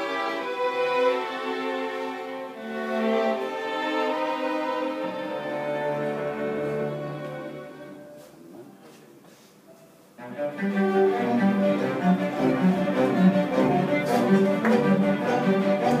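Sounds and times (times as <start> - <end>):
string orchestra playing: 0.0 - 8.3, 10.2 - 16.0.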